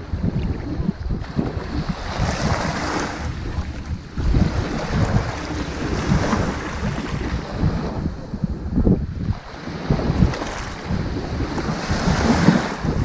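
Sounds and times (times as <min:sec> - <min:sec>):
waves washing onto beach: 0:00.0 - 0:13.0
wind rumble on microphone: 0:00.0 - 0:13.0.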